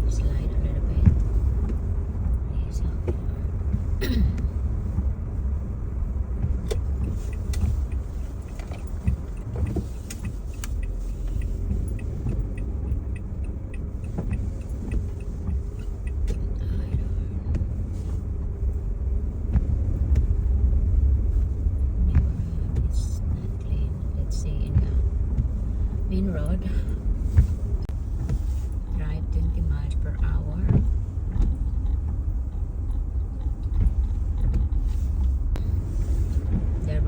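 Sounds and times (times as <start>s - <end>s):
car engine and tyres rumbling: 0.0s - 37.0s
light clicks and ticks: 0.1s - 37.0s.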